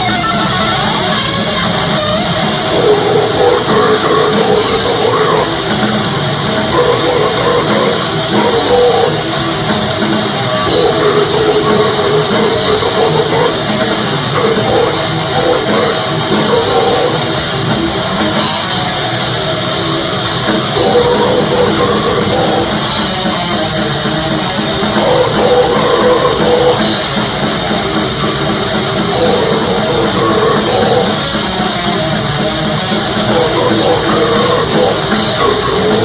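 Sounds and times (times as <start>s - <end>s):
death metal band playing live: 0.0s - 36.0s.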